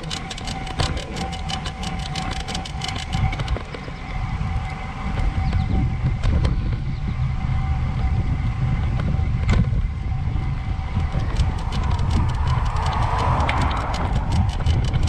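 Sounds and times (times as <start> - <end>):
bicycle creaks: 0.0 - 15.0
wind and road rumble: 0.0 - 15.0.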